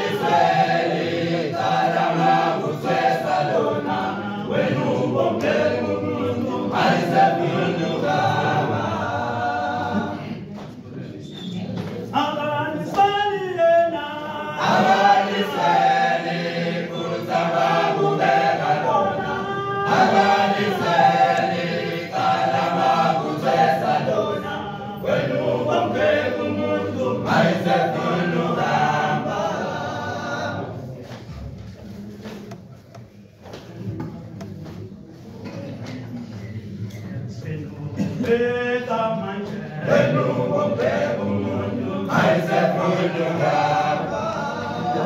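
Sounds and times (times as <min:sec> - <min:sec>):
male choir singing in harmony: 0:00.0 - 0:10.5, 0:12.0 - 0:31.0, 0:37.3 - 0:45.0.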